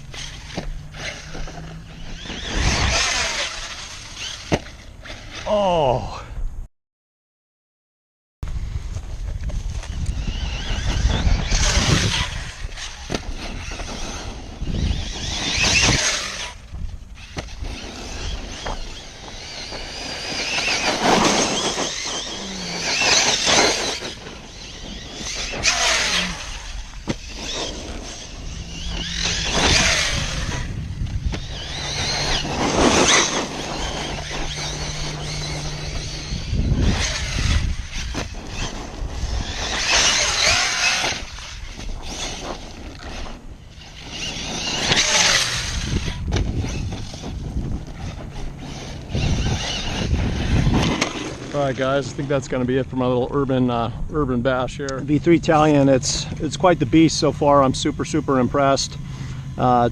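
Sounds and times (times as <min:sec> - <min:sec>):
rc car motor whining: 0:00.0 - 0:05.7, 0:09.7 - 0:52.4
steady low hum: 0:08.5 - 0:59.9.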